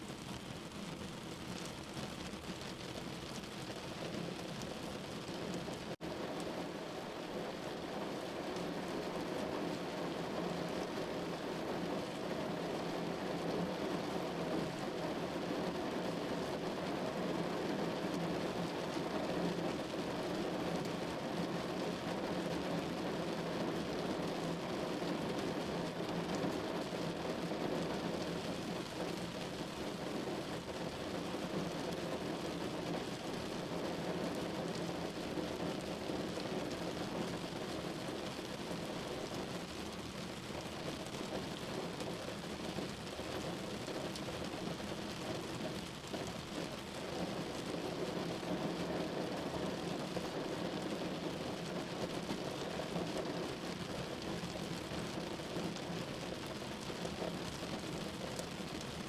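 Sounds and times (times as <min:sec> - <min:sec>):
rain on a window: 0:00.0 - 0:59.0.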